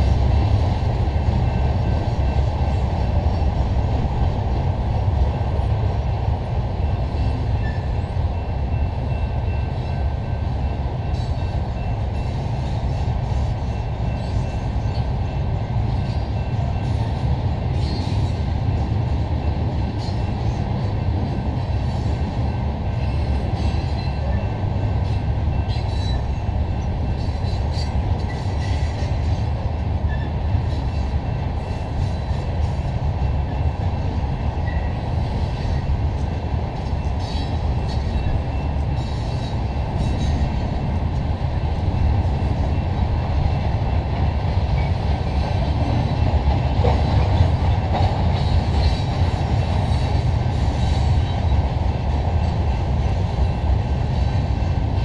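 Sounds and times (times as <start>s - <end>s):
train clanks and squeaks: 0.0s - 55.0s
train wheels rumbling on rails: 0.0s - 55.0s.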